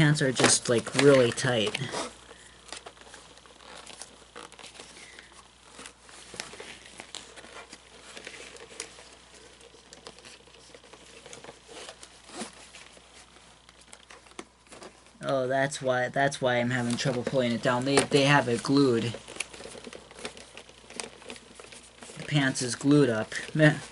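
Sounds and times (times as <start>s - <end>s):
fabric rustling: 0.0s - 15.3s, 15.9s - 23.9s
small clicks and scrapes: 0.0s - 15.3s, 16.5s - 23.9s.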